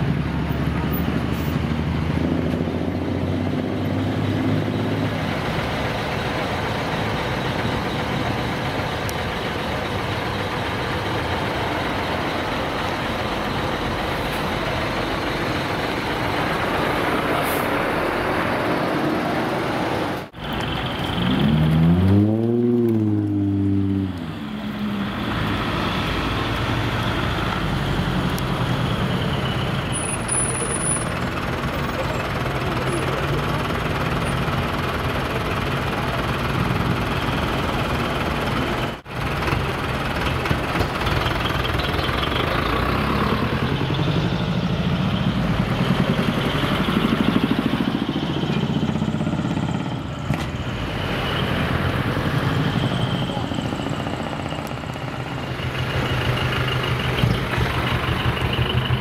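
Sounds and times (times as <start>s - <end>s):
heavy truck engines running: 0.0s - 59.0s
truck engine revving: 0.0s - 59.0s.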